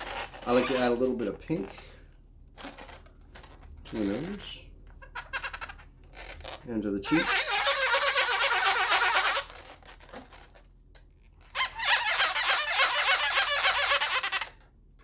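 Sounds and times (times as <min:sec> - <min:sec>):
balloons squeaking: 0:00.0 - 0:10.6, 0:11.2 - 0:14.7.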